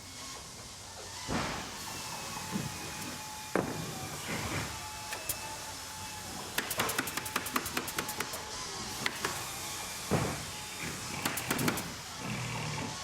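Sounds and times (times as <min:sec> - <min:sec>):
machines humming: 0:00.0 - 0:13.0.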